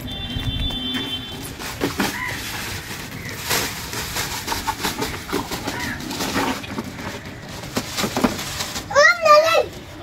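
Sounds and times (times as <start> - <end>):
plastic bag rustling: 0.0 - 10.0
plastic toys clattering: 0.5 - 10.0.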